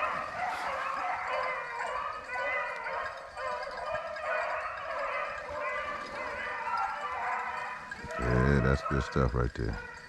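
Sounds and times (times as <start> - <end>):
dogs baying: 0.0 - 10.0.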